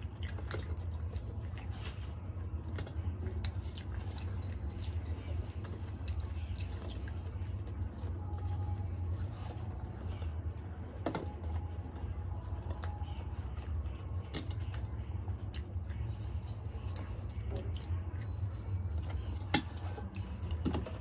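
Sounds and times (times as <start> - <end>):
chewing and wet smacks: 0.0 - 21.0
steady low hum: 0.0 - 21.0.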